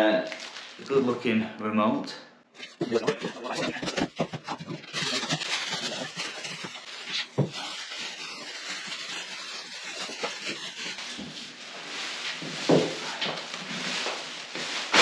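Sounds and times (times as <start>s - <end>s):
plastic wrapping crinkling: 0.2s - 1.3s, 2.7s - 15.0s.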